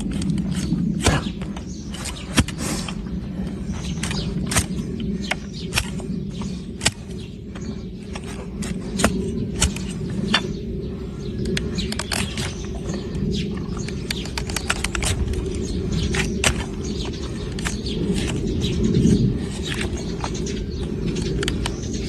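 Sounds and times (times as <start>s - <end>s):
hoof trimming tools clicking and snapping: 0.0s - 10.6s, 11.3s - 22.0s
steady low rumble: 0.0s - 22.0s.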